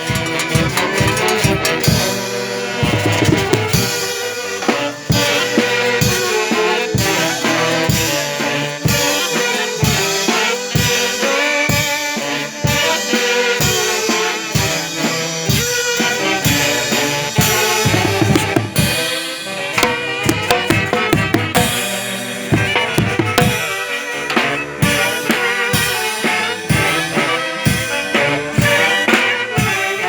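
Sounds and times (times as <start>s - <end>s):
band music: 0.0s - 30.0s.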